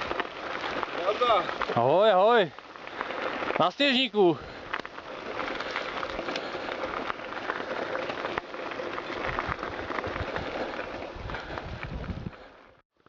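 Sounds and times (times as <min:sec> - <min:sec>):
bike tyres crunching on gravel: 0:00.0 - 0:13.0.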